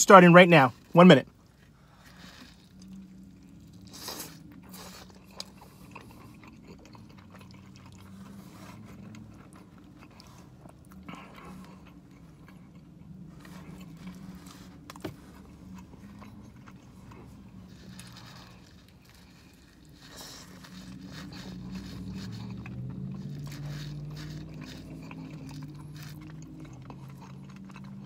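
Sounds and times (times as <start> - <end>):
person chewing pizza: 0.7 - 28.0.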